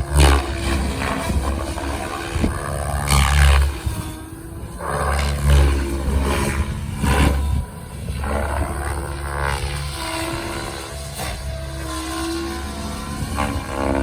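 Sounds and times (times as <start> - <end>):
rc helicopter rotor whine: 0.0 - 14.0.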